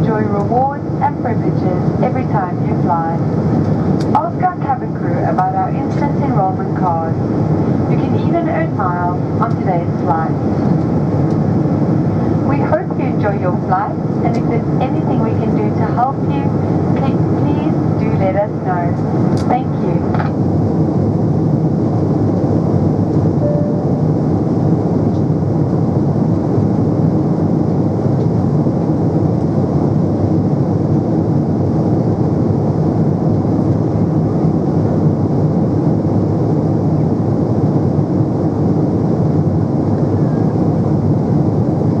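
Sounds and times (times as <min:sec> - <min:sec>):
airliner cabin drone: 0:00.0 - 0:42.0.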